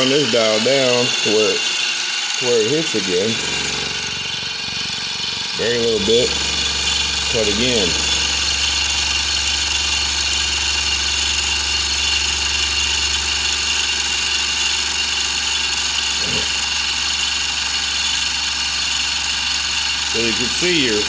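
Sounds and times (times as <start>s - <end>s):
milling machine cutting metal: 0.0s - 21.0s.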